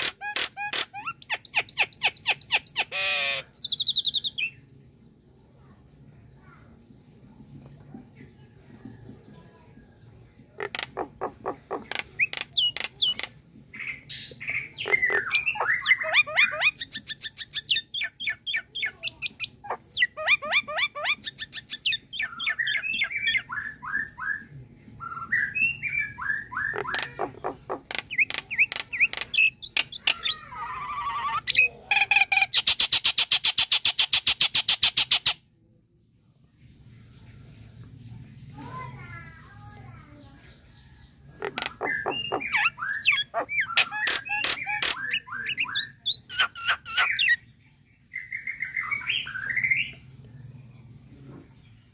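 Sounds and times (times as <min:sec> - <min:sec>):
myna bird singing: 0:00.0 - 0:04.8, 0:10.5 - 0:35.4, 0:39.3 - 0:51.9.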